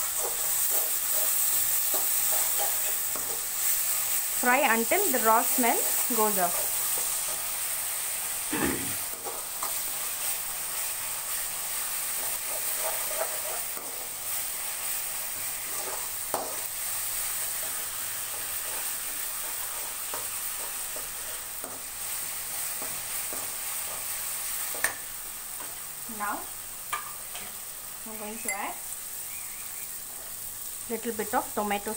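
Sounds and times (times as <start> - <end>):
food sizzling in hot oil: 0.0 - 31.9.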